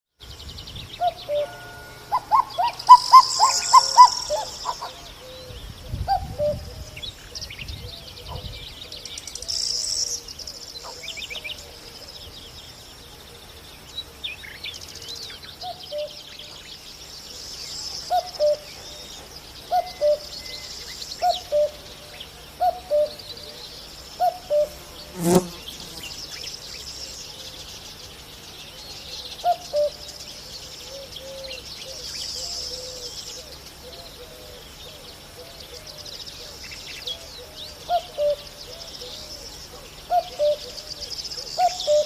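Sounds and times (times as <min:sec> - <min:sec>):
small birds chirping: 0:00.2 - 0:42.0
cuckoo calling: 0:01.0 - 0:12.2, 0:14.8 - 0:28.0, 0:28.7 - 0:42.0.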